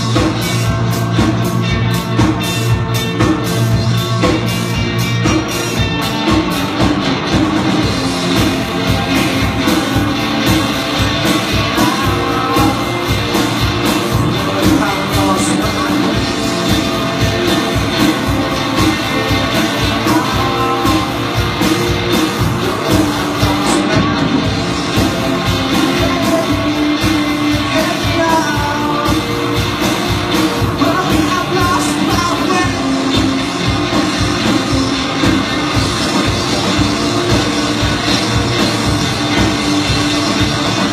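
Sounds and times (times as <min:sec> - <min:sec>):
drum kit beat: 0:00.0 - 0:40.9
electric guitars: 0:00.0 - 0:40.9.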